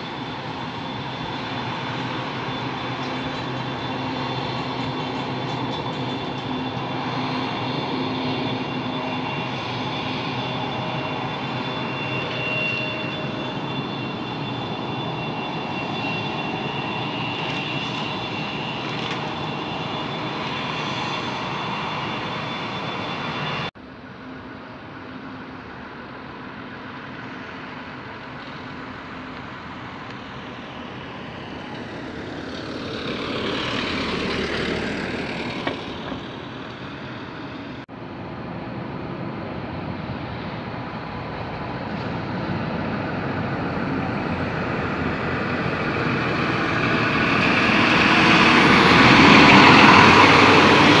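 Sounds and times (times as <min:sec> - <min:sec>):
airliner passing: 0:00.0 - 0:51.0
jet engines whining: 0:00.0 - 0:51.0.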